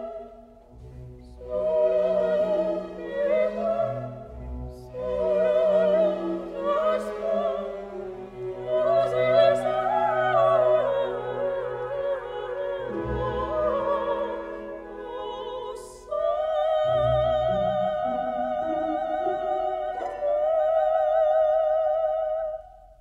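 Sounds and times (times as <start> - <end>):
classical music: 0.0 - 23.0.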